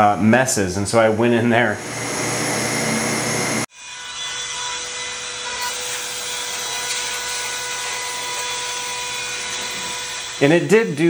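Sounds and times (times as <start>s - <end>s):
router spindle motor whining: 1.8s - 11.0s.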